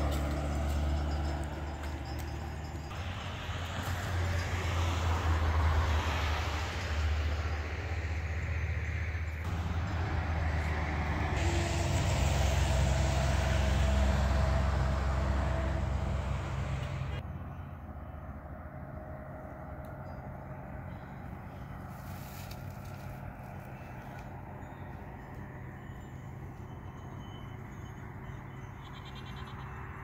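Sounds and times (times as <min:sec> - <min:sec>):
road noise: 0:00.0 - 0:30.0
vehicle engine drone: 0:00.0 - 0:30.0.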